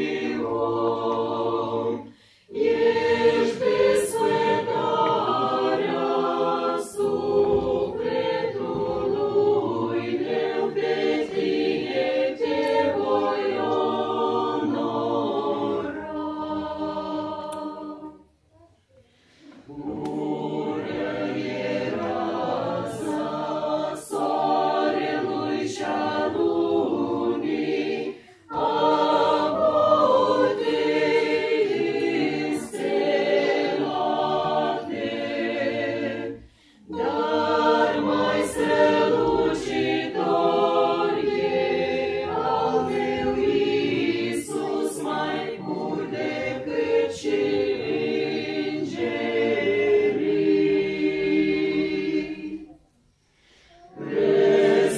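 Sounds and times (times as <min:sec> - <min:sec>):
mixed choir singing a hymn: 0:00.0 - 0:18.3, 0:19.1 - 0:54.9.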